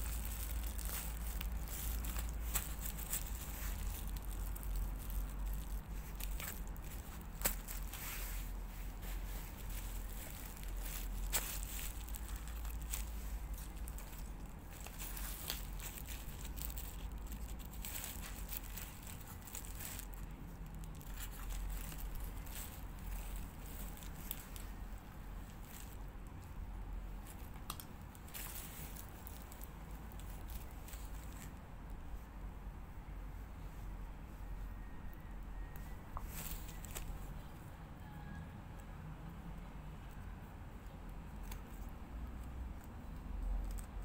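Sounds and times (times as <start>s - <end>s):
bubble wrap crinkling and crackling: 0.0s - 32.3s, 34.8s - 37.6s, 41.0s - 44.0s.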